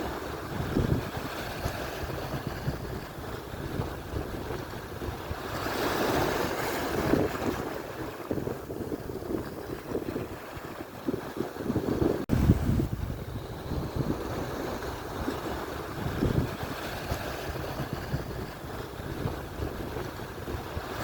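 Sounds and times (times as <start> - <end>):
surf washing on shore: 0.0 - 21.0
wind buffeting microphone: 0.0 - 21.0.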